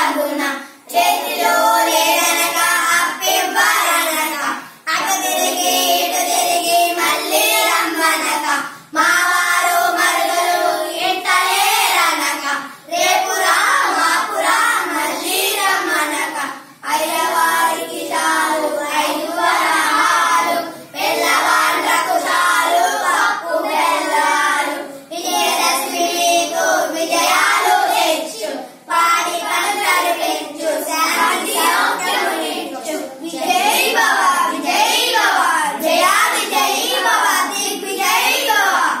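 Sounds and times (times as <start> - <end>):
children singing in unison: 0.0 - 39.0.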